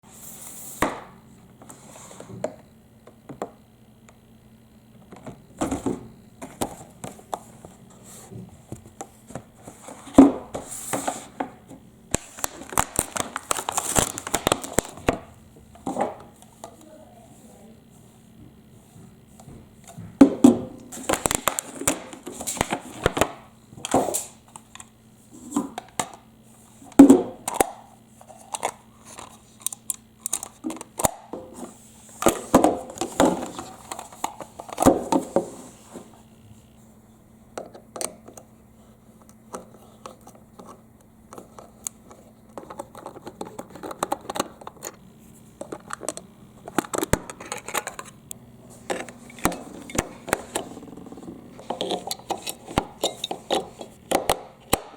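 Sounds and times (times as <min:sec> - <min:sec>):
toy washing machine motor hum: 0:00.0 - 0:54.9.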